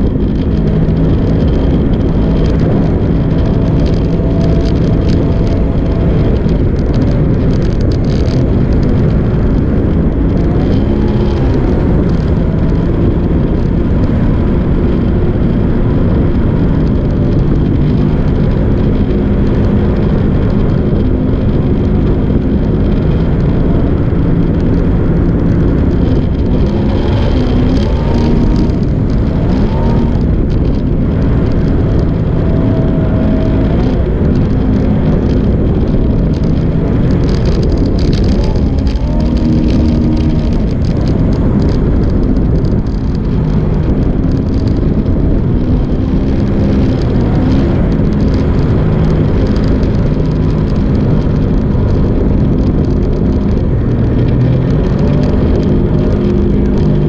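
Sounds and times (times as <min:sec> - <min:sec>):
rush of noise: 0:00.0 - 0:57.0.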